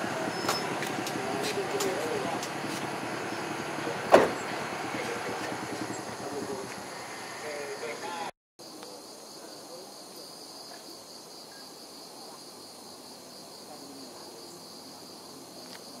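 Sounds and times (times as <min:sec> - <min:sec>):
night insects trilling: 0:00.3 - 0:16.0.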